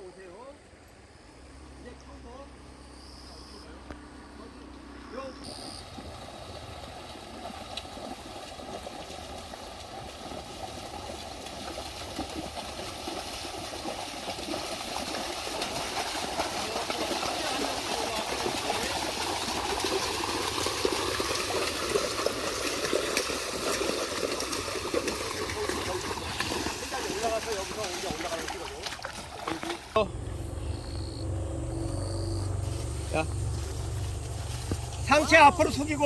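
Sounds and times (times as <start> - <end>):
creek water rushing: 6.0 - 36.0.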